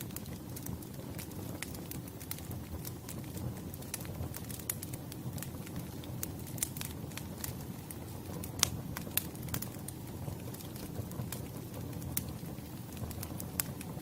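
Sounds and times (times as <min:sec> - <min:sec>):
fire crackling and popping: 0:00.0 - 0:14.0
low steady fire rumble: 0:00.0 - 0:14.0.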